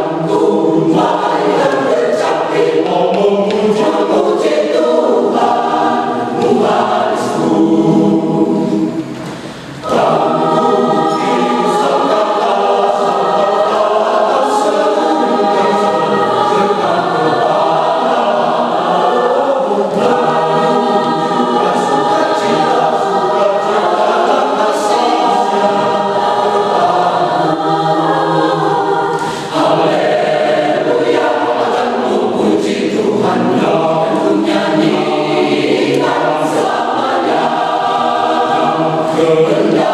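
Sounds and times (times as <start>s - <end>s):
mixed choir singing in parts: 0.0s - 39.9s.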